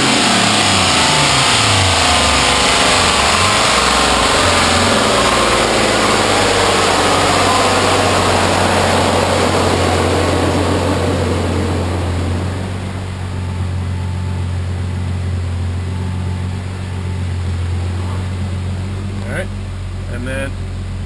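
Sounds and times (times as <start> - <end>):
car engine on dyno: 0.0 - 21.0.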